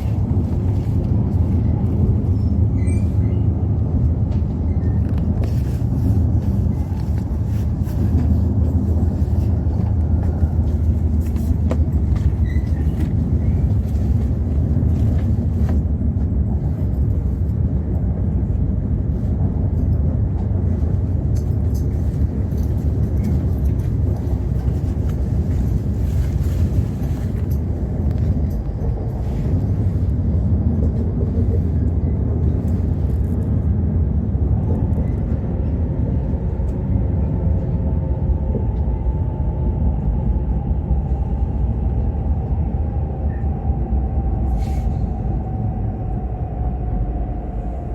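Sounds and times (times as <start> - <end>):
train running rumble: 0.0 - 47.9.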